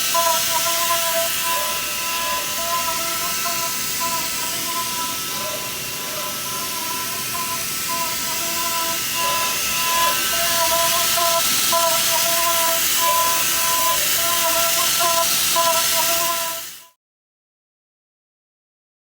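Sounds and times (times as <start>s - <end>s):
loud continuous hiss: 0.0s - 16.9s
milling machine high tones: 0.0s - 17.0s.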